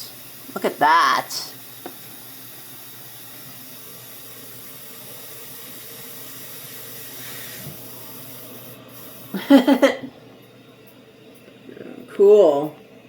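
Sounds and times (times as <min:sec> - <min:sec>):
water spraying into washing machine: 0:00.0 - 0:10.9.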